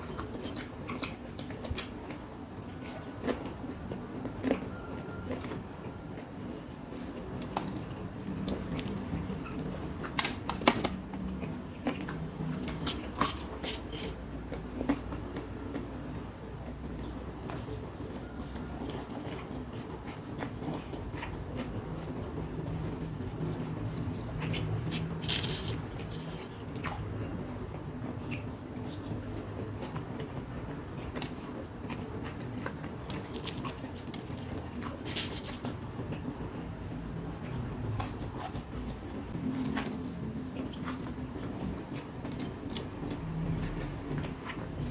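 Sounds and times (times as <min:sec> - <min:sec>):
chewing crunchy snacks: 0:00.0 - 0:44.9.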